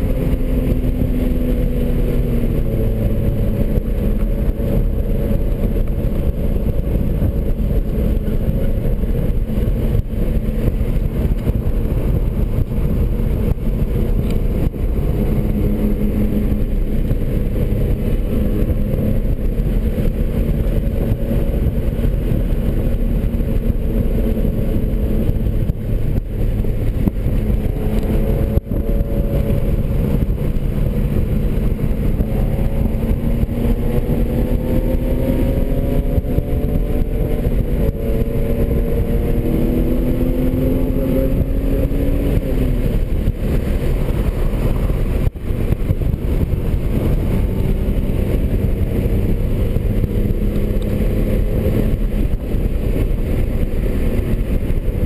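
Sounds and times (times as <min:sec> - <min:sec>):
car engine under load: 0:00.0 - 0:55.0.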